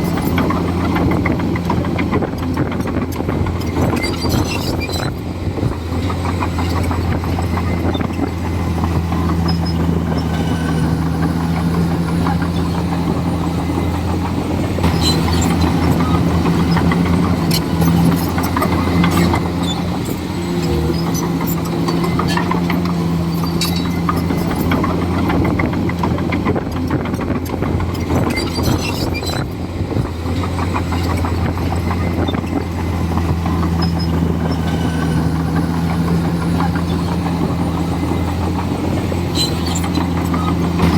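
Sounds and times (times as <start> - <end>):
bulldozer diesel engine running: 0.0 - 40.9
clanks and cracks from tracks: 0.0 - 40.9.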